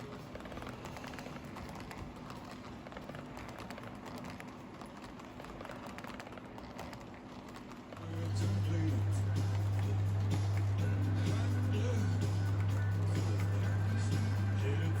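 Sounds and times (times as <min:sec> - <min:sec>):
model train wheels clicking: 0:00.0 - 0:15.0
steady low hum: 0:00.0 - 0:15.0.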